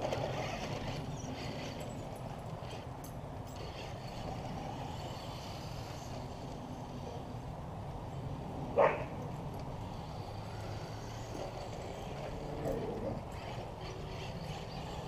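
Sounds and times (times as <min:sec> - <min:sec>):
toy car motor whine: 0:00.0 - 0:07.3, 0:09.7 - 0:15.0
outdoor background noise: 0:00.0 - 0:15.0.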